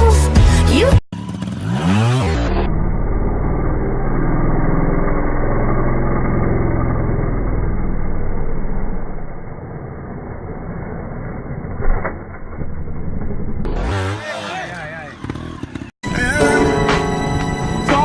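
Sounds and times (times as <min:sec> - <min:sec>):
vehicle engine running: 0:00.6 - 0:16.0.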